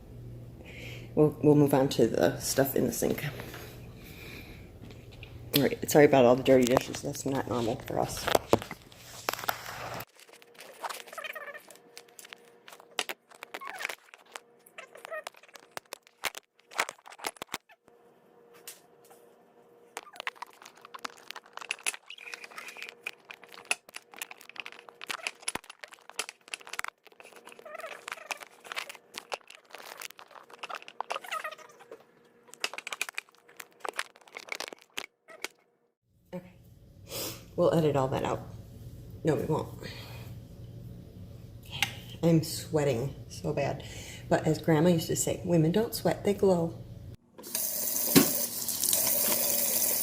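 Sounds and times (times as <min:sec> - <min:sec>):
faint steady hum: 0:00.0 - 0:34.0, 0:36.2 - 0:50.0.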